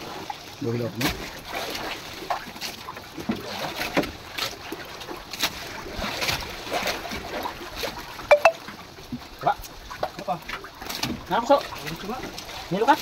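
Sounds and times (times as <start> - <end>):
water lapping on boat: 0.0 - 13.0
wind: 0.0 - 13.0
knocks and clatter on boat: 0.9 - 8.0, 8.7 - 13.0.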